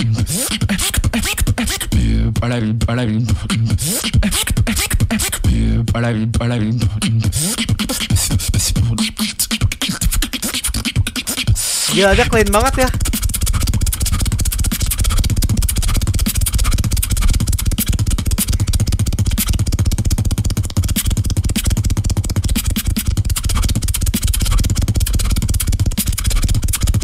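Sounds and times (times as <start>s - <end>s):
beatboxer buzzing bass: 0.0s - 27.0s.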